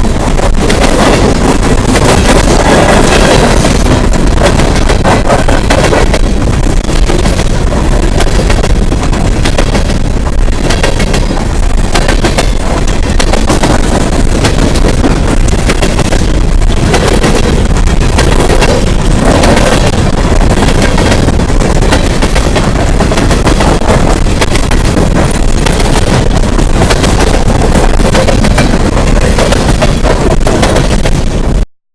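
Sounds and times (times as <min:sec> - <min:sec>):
hopper cars rattling and banging: 0:00.0 - 0:31.6
train wheels clacking: 0:00.0 - 0:31.6.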